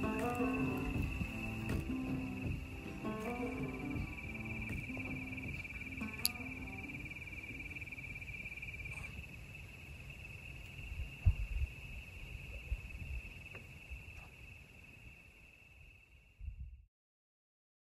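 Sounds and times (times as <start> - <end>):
cricket trilling: 0.0 - 16.5.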